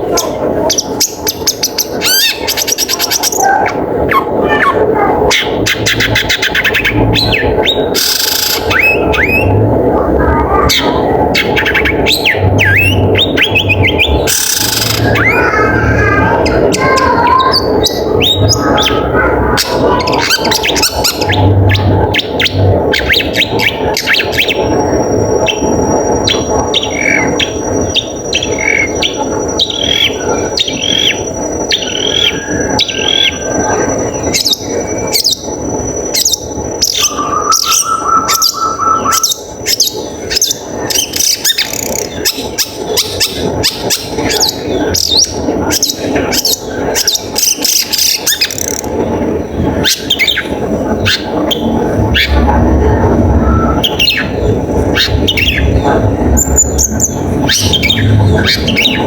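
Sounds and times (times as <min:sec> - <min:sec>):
shrike singing chirps: 0:00.0 - 0:59.0.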